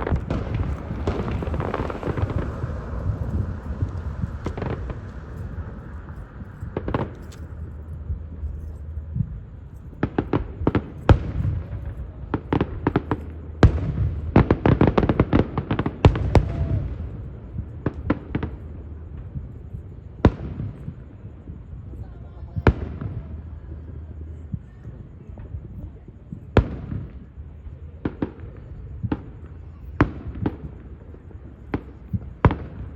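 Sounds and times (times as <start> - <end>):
fireworks bangs and crackles: 0.0 - 32.9
fireworks low rumble: 0.0 - 32.9.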